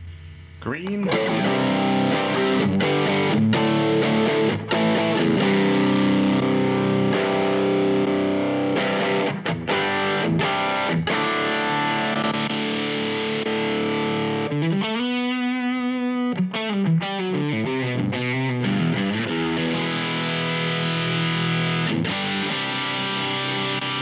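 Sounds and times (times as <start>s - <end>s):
distorted electric guitar: 0.0s - 24.0s.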